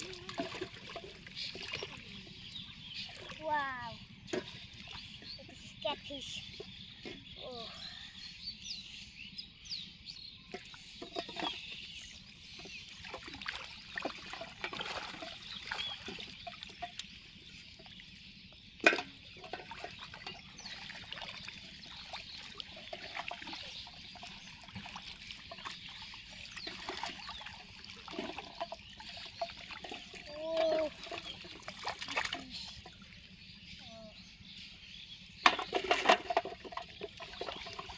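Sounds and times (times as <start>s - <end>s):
water splashing and trickling: 0.0s - 8.3s, 10.4s - 37.9s
birds chirping: 0.0s - 37.9s.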